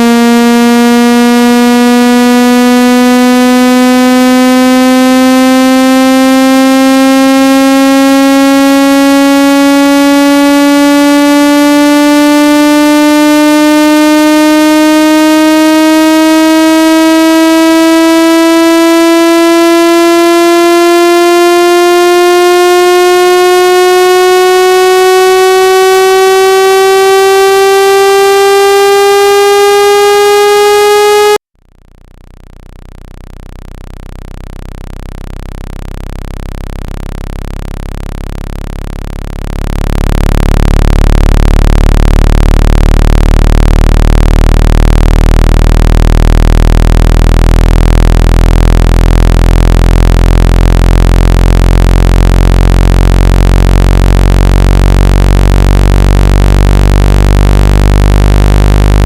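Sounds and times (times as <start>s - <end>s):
buzzy tone rising in pitch: 0.0s - 31.4s, 32.2s - 59.0s
deep low hum: 0.0s - 59.0s.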